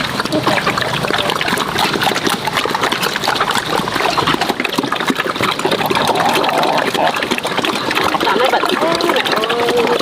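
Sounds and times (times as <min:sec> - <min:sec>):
water gushing and splashing: 0:00.0 - 0:10.0.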